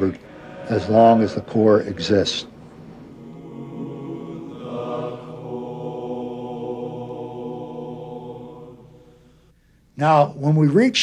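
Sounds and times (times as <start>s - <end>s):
slow chant-like chord music: 0.0s - 9.6s.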